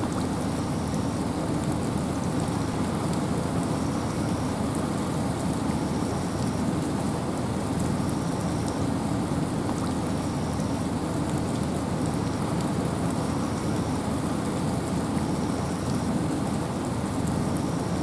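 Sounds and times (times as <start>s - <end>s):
rain falling through forest: 0.0s - 18.0s
wind: 0.0s - 18.0s.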